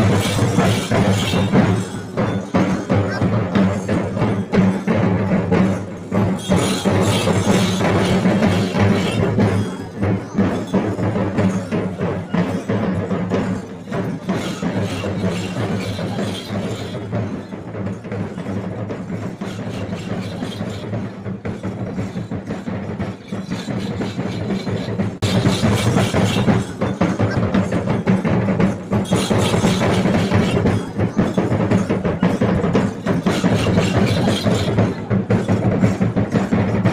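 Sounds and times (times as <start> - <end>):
drum ensemble playing: 0.0 - 36.9.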